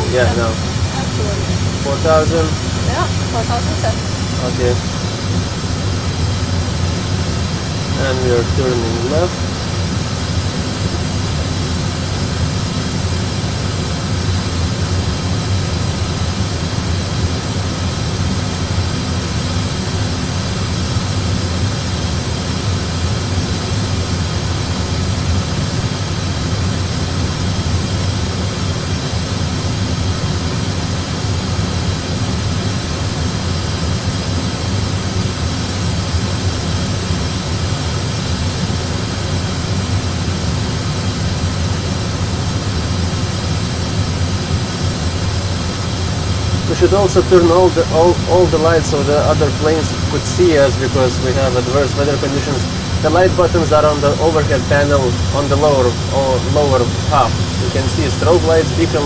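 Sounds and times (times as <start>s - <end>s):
simulated engine rumble with hiss: 0.0s - 59.0s.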